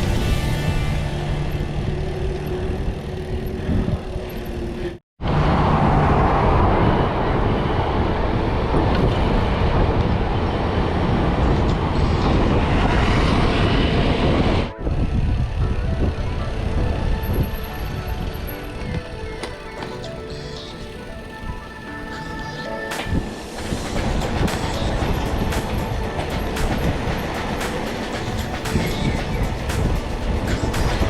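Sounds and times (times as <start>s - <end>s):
wind on microphone: 2.1s - 19.4s, 23.0s - 31.0s.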